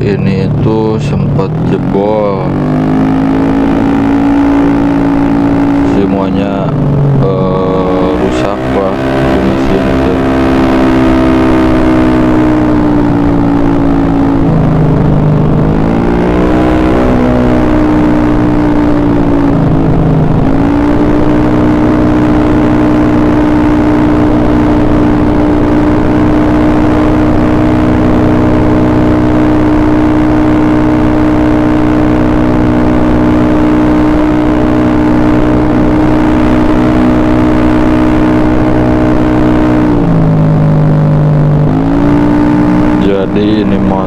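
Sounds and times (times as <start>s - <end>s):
scooter engine running: 0.0s - 44.0s.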